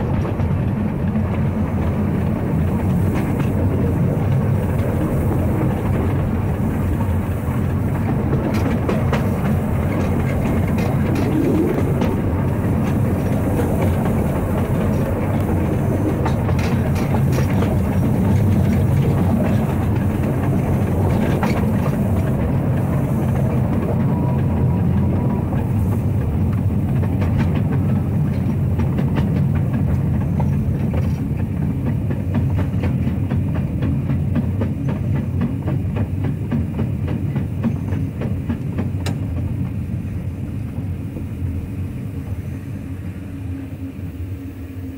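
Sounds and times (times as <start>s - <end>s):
wheels clicking on track: 0.0s - 44.4s
steam locomotive rumble: 0.0s - 44.9s.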